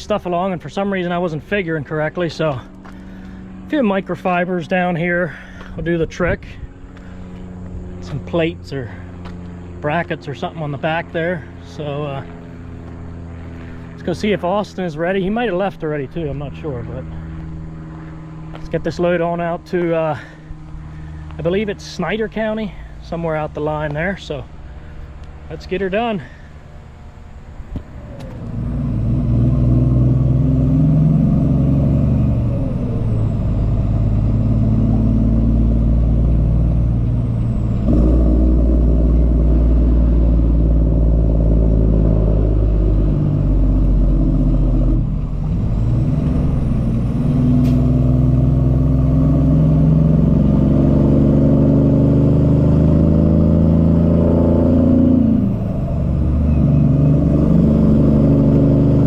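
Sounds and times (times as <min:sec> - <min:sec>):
diesel truck engine accelerating: 0:00.0 - 0:59.0.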